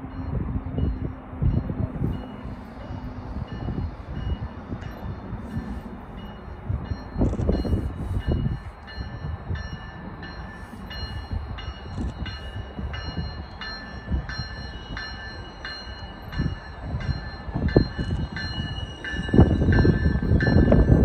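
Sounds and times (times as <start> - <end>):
train bell ringing: 0.0 - 21.0
train rumble: 0.0 - 21.0.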